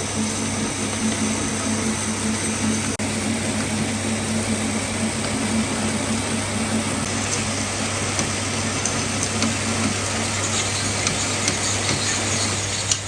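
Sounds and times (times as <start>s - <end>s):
metal lathe motor hum: 0.0s - 13.0s.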